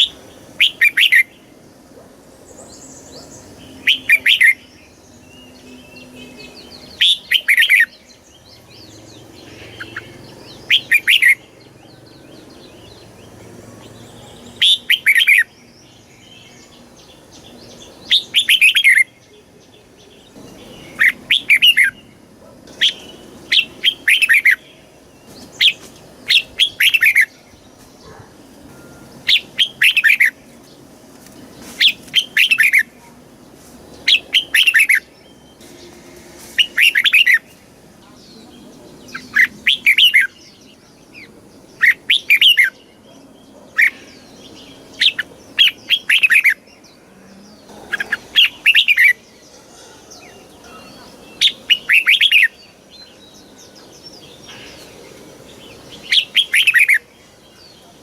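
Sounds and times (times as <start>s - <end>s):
bird singing warbling phrases: 0.0s - 30.9s, 31.6s - 33.2s, 34.0s - 36.0s, 36.6s - 58.0s.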